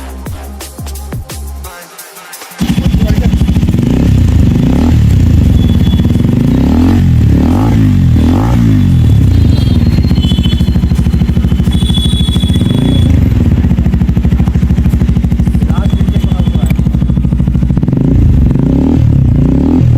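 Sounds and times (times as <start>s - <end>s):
motorcycle engine idling and revving: 2.6s - 19.9s.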